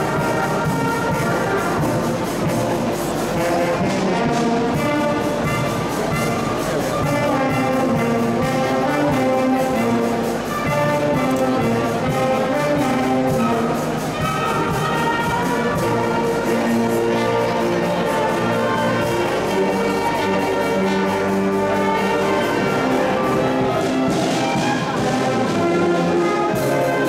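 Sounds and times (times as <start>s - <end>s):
wind band playing a tune: 0.0s - 27.0s.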